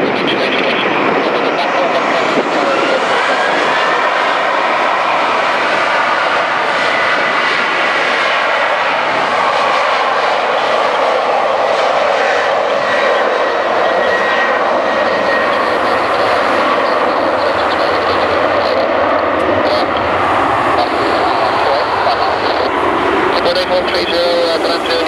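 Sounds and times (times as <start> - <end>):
jet engines on runway: 0.0 - 25.0.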